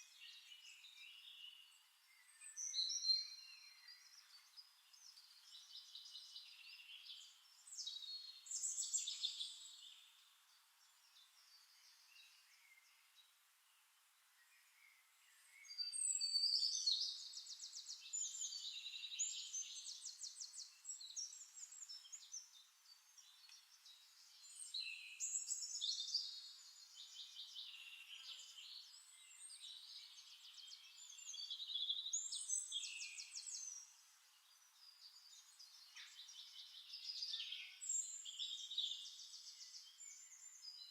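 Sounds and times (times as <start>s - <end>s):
songbird singing trills: 0.0s - 13.2s, 14.4s - 40.9s.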